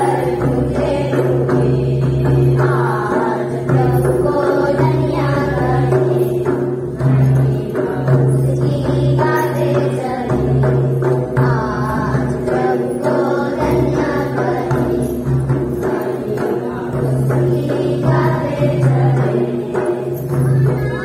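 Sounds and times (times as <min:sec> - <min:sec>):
group singing folk song: 0:00.0 - 0:20.3
barrel drum beating: 0:00.0 - 0:21.0
jingling percussion: 0:00.0 - 0:21.0.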